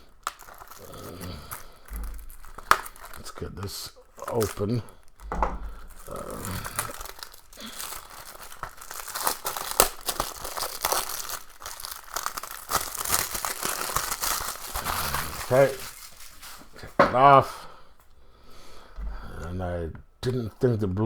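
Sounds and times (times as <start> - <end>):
packaging crinkling and tearing: 0.0 - 17.0.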